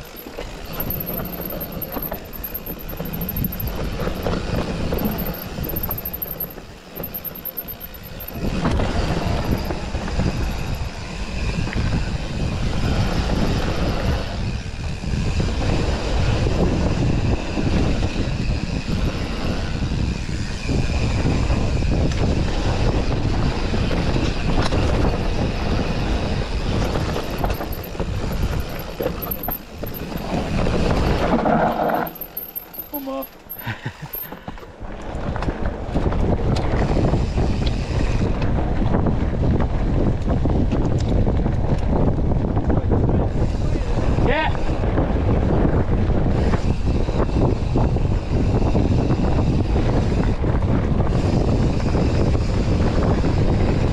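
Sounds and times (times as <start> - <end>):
wind rushing over microphone: 0.0 - 32.4, 33.8 - 53.9
bike tyres rolling over dirt: 0.0 - 44.1
bike rattling: 0.0 - 53.9.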